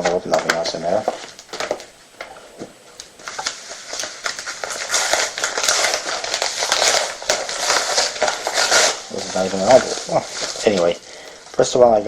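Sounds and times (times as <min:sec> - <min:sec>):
packaging envelope crinkling: 0:00.0 - 0:12.0.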